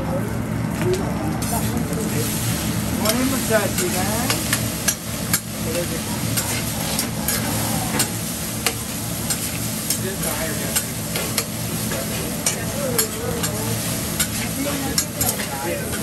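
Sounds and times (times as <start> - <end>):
rice sizzling on griddle: 0.0 - 16.0
metal spatula scraping hot plate: 3.0 - 16.0.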